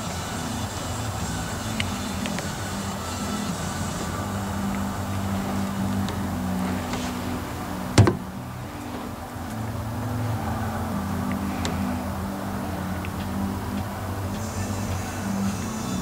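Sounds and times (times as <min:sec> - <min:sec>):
low hum shifting in pitch: 0:00.0 - 0:16.0.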